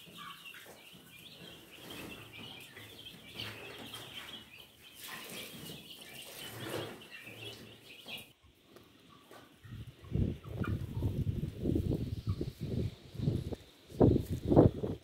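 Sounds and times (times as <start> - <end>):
chickens chirping: 0.0 - 15.0.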